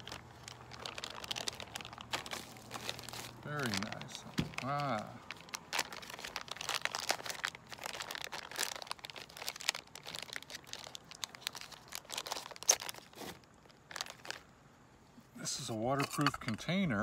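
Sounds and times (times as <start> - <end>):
plastic bag crinkling: 0.0 - 14.5.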